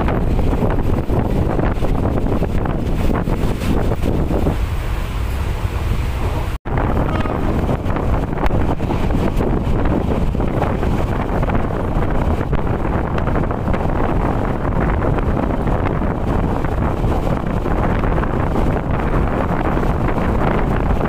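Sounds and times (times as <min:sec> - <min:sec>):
moving train rumble: 0:00.0 - 0:21.0
wind buffeting microphone: 0:00.0 - 0:21.0.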